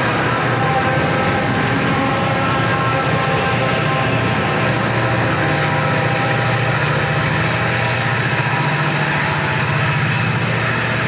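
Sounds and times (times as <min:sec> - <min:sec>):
diesel locomotive engines: 0:00.0 - 0:11.0
train wheels on rails: 0:00.0 - 0:11.0.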